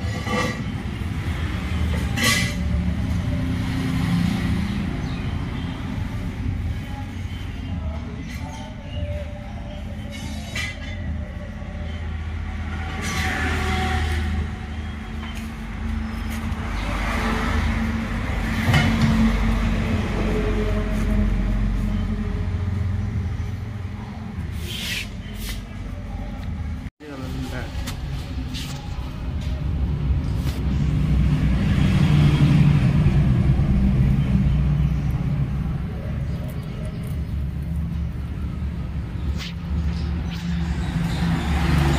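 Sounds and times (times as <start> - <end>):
vehicle engine humming: 0.0 - 41.9.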